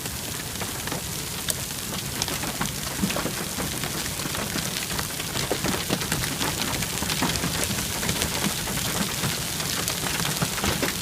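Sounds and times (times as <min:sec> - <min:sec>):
hailstones ticking on hard surface: 0:00.0 - 0:11.0.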